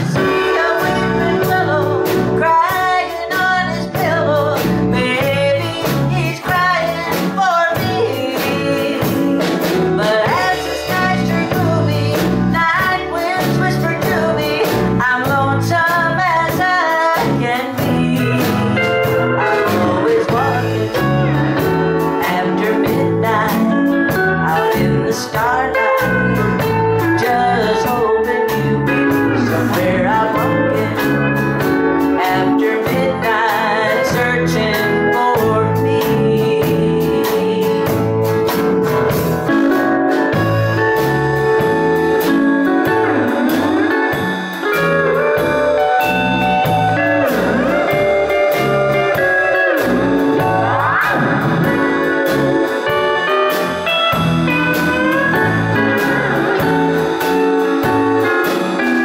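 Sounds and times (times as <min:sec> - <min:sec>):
woman singing: 0:00.0 - 0:38.7, 0:39.5 - 0:50.8
live country band playing: 0:00.0 - 0:59.0.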